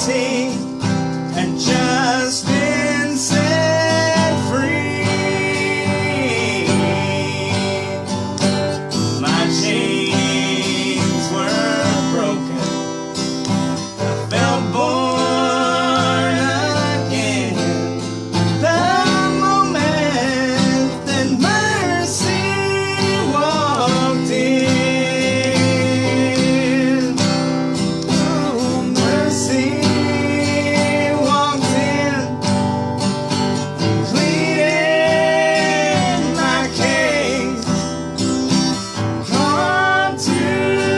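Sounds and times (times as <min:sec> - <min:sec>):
person singing: 0:00.0 - 0:32.5, 0:33.5 - 0:40.9
acoustic guitar strumming: 0:00.0 - 0:40.9.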